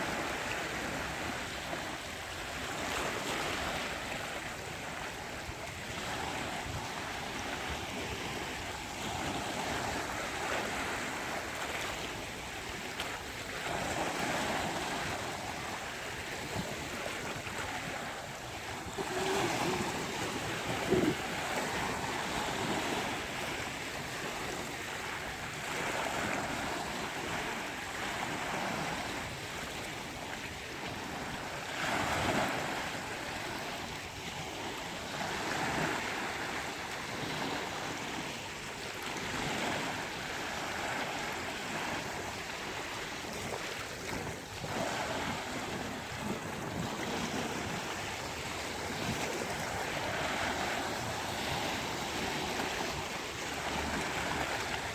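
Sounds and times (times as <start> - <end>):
waves breaking on beach: 0.0 - 54.9.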